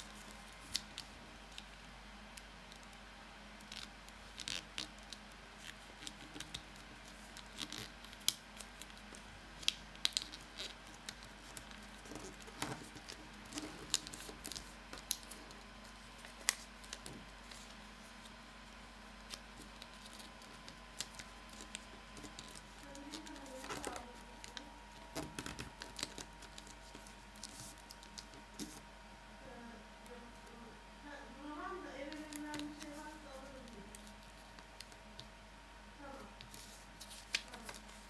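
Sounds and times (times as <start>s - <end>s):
paper crackling as folded: 0.0s - 3.0s, 3.6s - 28.8s, 32.0s - 35.3s, 36.1s - 38.0s.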